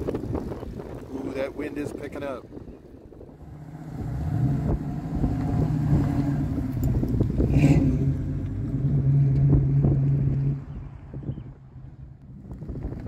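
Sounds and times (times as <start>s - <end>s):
car engines rolling slowly: 0.0s - 13.0s.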